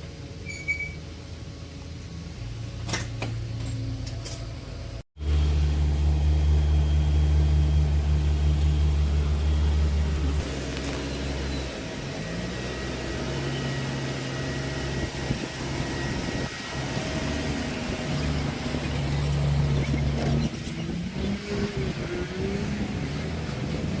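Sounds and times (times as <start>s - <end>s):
vehicle engine running: 1.1s - 24.0s.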